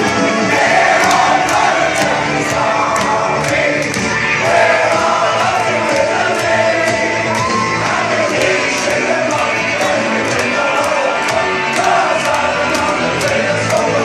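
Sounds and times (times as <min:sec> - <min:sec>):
crowd singing along and shouting: 0:00.0 - 0:14.0
upbeat rock song: 0:00.0 - 0:14.0.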